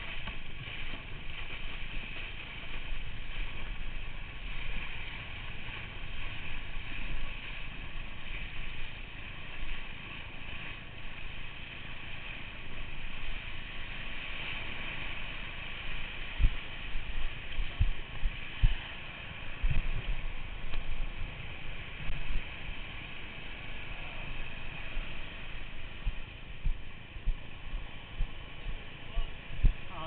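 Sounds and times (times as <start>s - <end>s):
water spray and wake hiss: 0.0s - 30.0s
wind over microphone: 0.0s - 30.0s.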